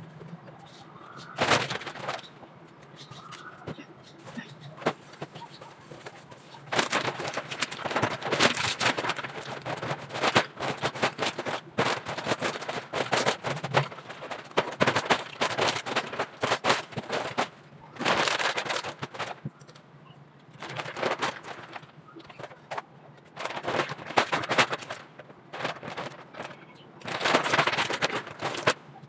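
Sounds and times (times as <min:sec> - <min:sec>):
plastic bag crinkling: 0:00.2 - 0:19.8, 0:20.4 - 0:29.0.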